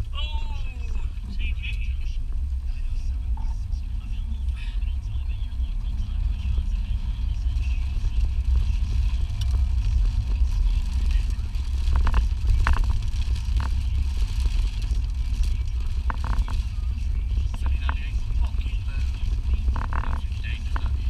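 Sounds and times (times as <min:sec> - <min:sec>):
car cabin driving rumble: 0:00.0 - 0:21.0.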